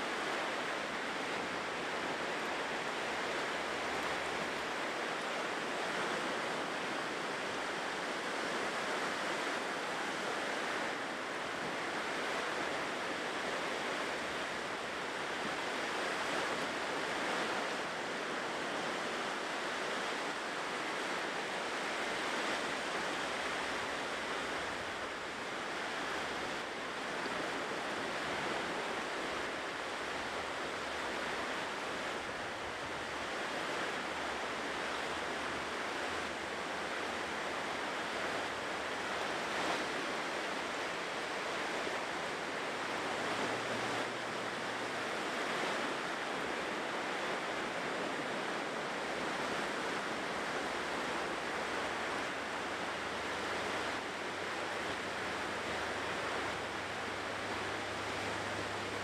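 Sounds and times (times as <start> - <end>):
ocean surf breaking on shore: 0.0 - 59.0.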